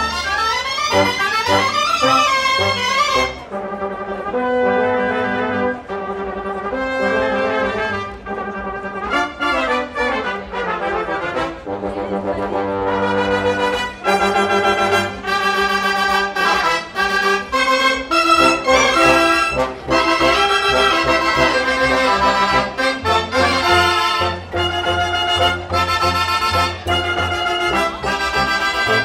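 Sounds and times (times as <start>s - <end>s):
trombone: 0.0s - 29.0s
trumpet: 0.0s - 29.0s
upright double bass: 0.0s - 29.0s.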